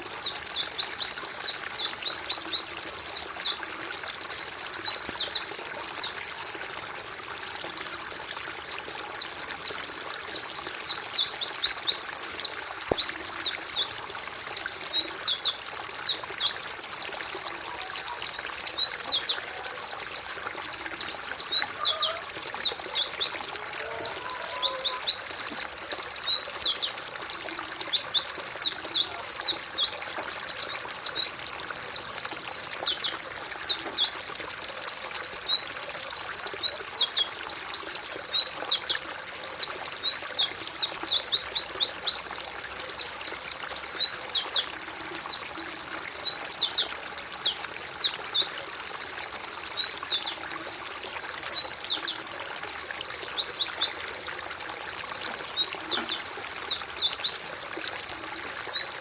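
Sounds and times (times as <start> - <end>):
chorus of chirping birds: 0.0 - 59.0.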